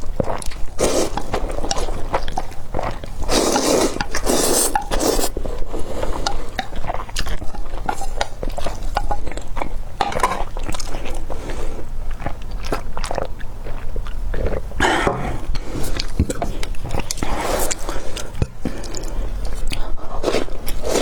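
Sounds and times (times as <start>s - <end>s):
wet chewing of noodles: 0.0s - 21.0s.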